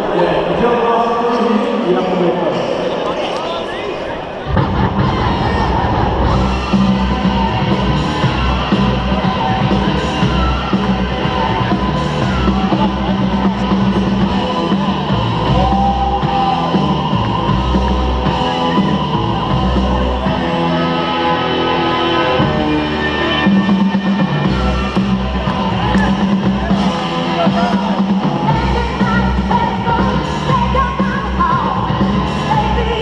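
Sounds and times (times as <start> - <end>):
battle music over sound system: 4.4 - 33.0.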